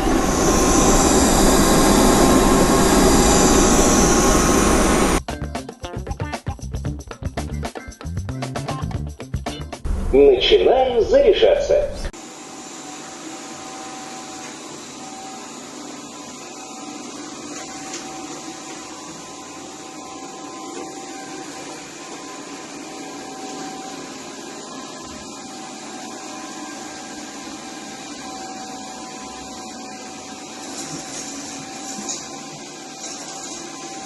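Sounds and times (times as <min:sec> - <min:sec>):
robot vacuum cleaner running: 0:00.0 - 0:05.2, 0:10.5 - 0:34.0.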